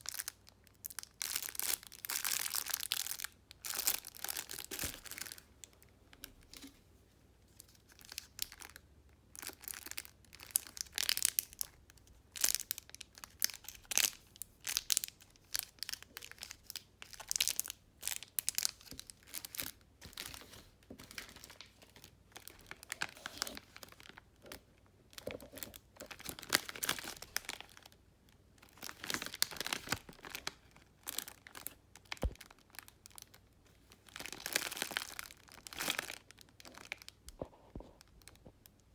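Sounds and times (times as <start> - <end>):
plastic packaging crinkling: 0.0 - 6.7, 7.5 - 38.5.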